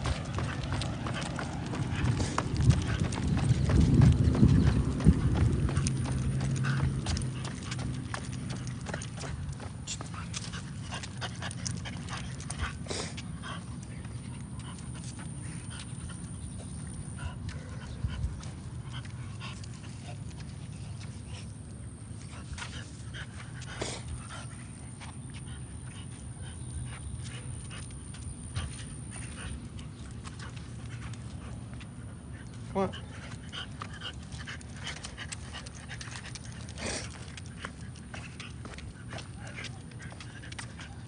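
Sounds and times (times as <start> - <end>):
dog breathing: 0.0 - 20.2, 22.4 - 41.0
paw taps on concrete: 0.0 - 41.0.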